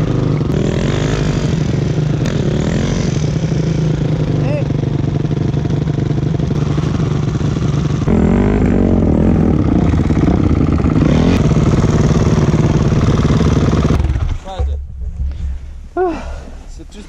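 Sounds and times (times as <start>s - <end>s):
dirt bike engine revving: 0.0s - 14.5s.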